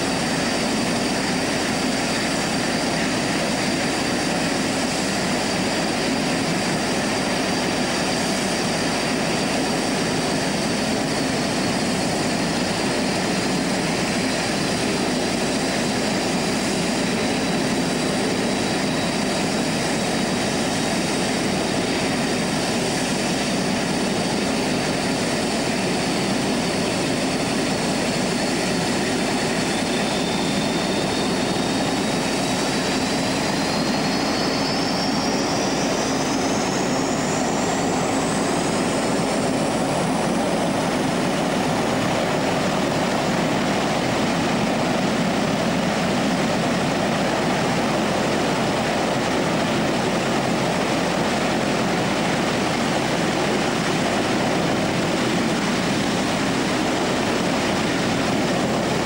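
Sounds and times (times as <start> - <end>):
high turbine whine: 0.0 - 59.0
hovercraft turbines roaring: 0.0 - 59.0.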